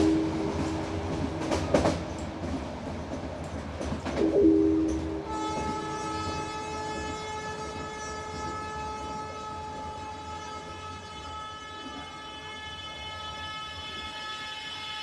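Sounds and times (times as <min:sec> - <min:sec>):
train horn: 0:00.0 - 0:01.9, 0:04.2 - 0:15.0
low train rumble: 0:00.0 - 0:15.0.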